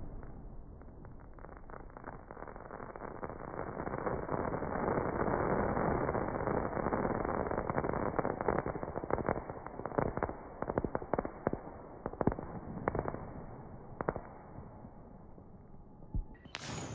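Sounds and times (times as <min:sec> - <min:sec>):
fireworks cracks and pops: 0:00.0 - 0:14.8, 0:16.3 - 0:16.9.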